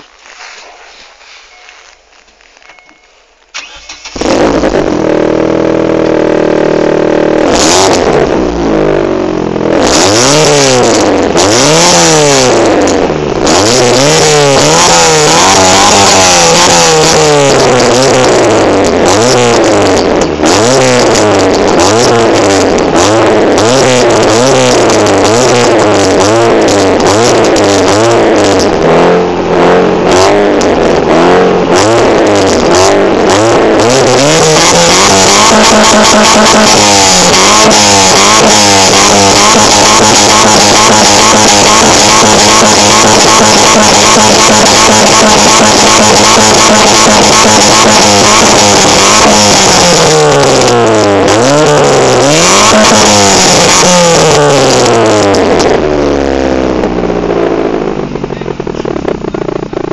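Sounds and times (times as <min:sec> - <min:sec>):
car engine revving: 0:03.5 - 0:59.9.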